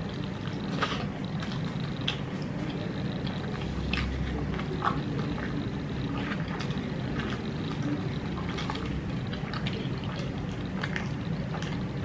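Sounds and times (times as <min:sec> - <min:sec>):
low background rumble: 0:00.0 - 0:12.0
man chewing food: 0:00.0 - 0:12.0.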